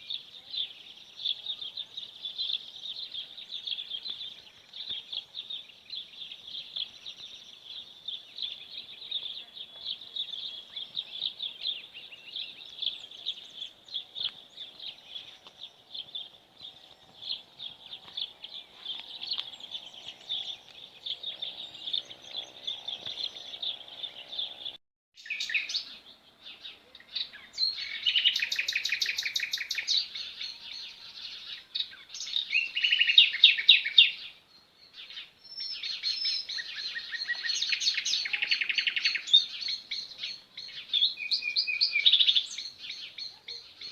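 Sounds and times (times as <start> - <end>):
bird songs with fast trills: 0.0 - 43.9
songbirds twittering chorus: 0.0 - 43.9.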